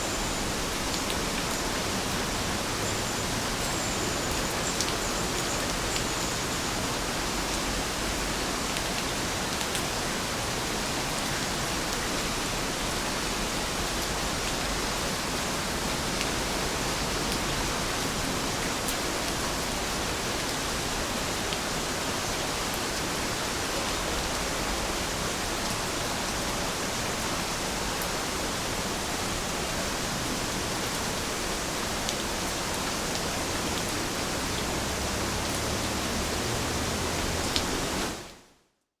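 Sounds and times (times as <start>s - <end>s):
heavy rain: 0.0s - 38.5s.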